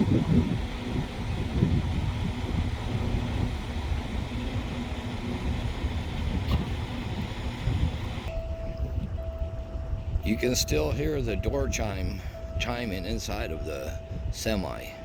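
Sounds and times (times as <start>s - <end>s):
low rumble of vehicles: 0.0s - 15.0s
wind buffeting microphone: 0.0s - 15.0s.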